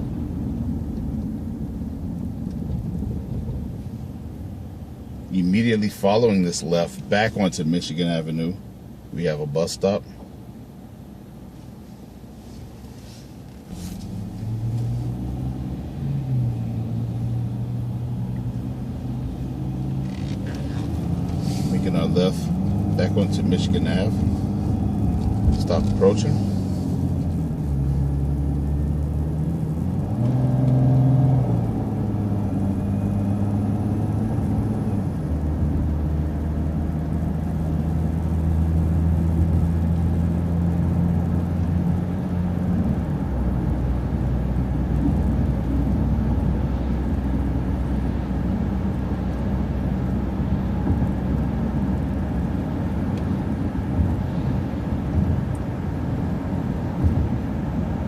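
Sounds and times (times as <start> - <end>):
bus engine running: 0.0 - 5.3, 9.9 - 58.0
low road rumble: 0.0 - 58.0.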